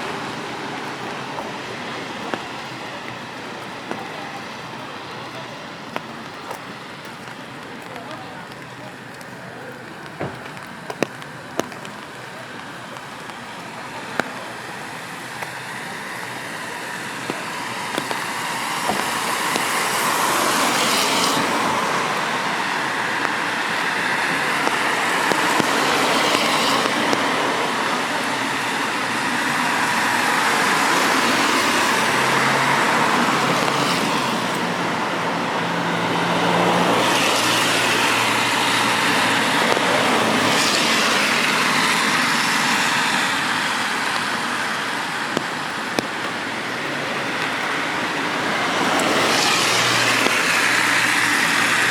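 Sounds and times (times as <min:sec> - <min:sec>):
cars passing on wet road: 0:00.0 - 0:51.9
engine hum: 0:00.0 - 0:51.9
rain hiss: 0:00.0 - 0:51.9.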